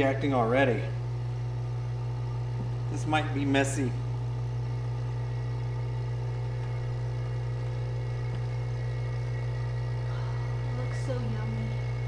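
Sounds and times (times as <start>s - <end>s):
vacuum pump humming: 0.0s - 12.0s.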